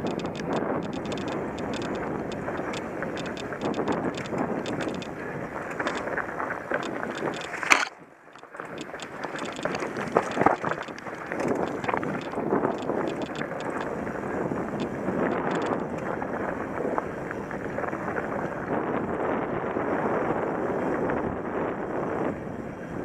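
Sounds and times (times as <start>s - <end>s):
bike clicking and rattling: 0.0s - 22.2s
bike tyre noise: 0.0s - 23.0s
wind rushing over microphone: 0.0s - 23.0s.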